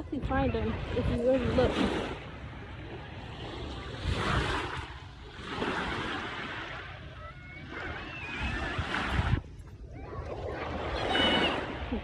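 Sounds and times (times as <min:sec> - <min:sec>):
small waves washing ashore: 0:00.0 - 0:12.0
wind rumbling on microphone: 0:00.0 - 0:12.0.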